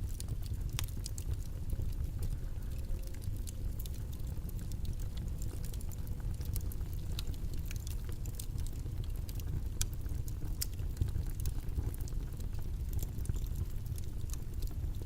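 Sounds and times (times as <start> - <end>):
clicks and crackles: 0.0 - 15.0.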